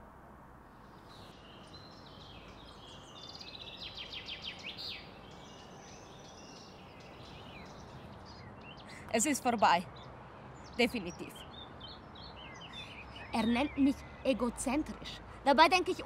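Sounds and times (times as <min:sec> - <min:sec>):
faint outdoor hiss: 0:00.0 - 0:16.0
songbirds chirping: 0:00.7 - 0:16.0.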